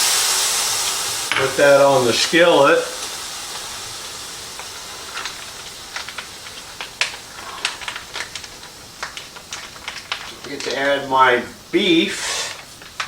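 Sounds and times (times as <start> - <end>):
juice sizzling on skillet: 0.0 - 13.0
pan pops and crackles: 0.0 - 13.0.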